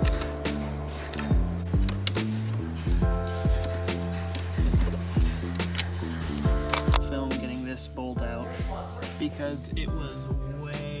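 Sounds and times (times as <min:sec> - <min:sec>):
mellow electronic beat: 0:00.0 - 0:11.0.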